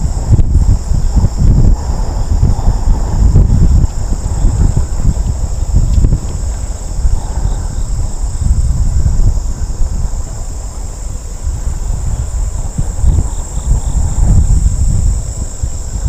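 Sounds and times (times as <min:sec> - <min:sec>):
insects chorus: 0:00.0 - 0:16.0
wind buffeting microphone: 0:00.0 - 0:16.0.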